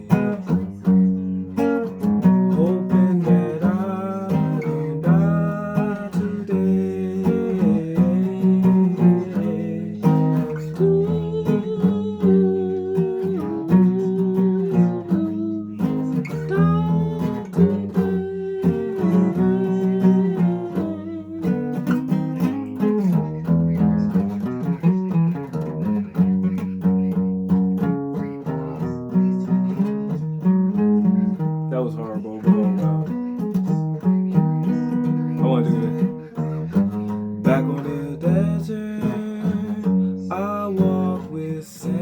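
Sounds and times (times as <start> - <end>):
acoustic guitar playing: 0.0 - 42.0.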